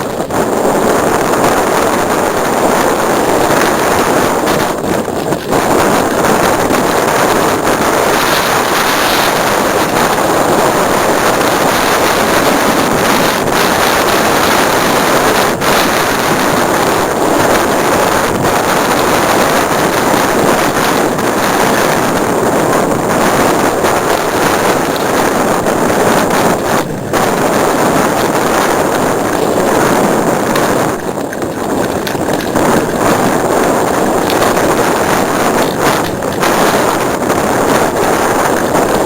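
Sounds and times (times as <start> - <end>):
rushing wind noise: 0.0 - 39.0.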